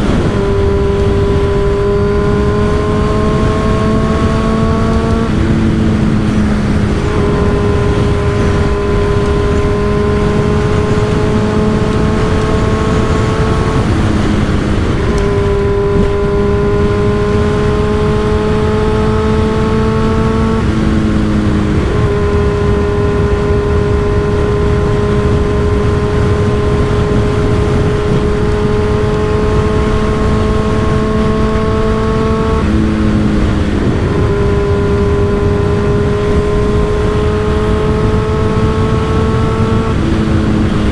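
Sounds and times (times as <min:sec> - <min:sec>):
motorcycle engine: 0:00.0 - 0:40.9
wind rumble on microphone: 0:00.0 - 0:40.9.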